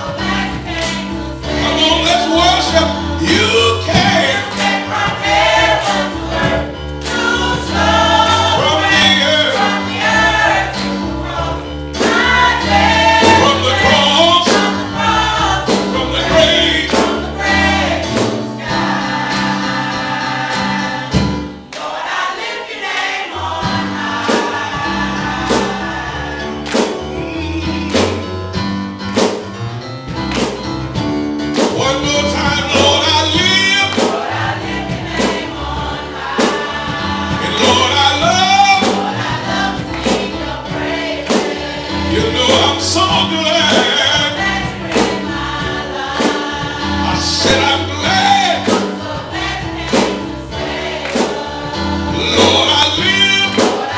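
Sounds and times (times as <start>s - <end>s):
choir singing gospel with band: 0.0s - 53.9s.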